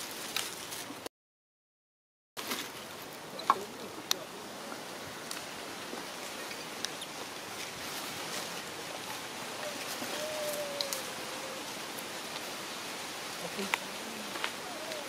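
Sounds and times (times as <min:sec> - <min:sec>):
dry leaves crackling and rustling: 0:00.0 - 0:01.0, 0:02.4 - 0:15.0
steady outdoor hiss: 0:02.4 - 0:15.0.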